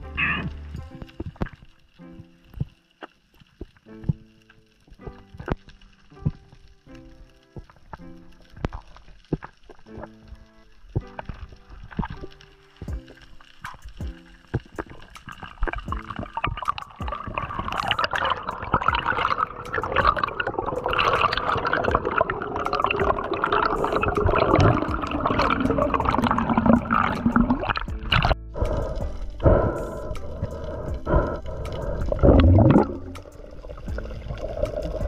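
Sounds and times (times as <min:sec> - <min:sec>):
water rushing and bubbling: 0:00.0 - 0:35.0.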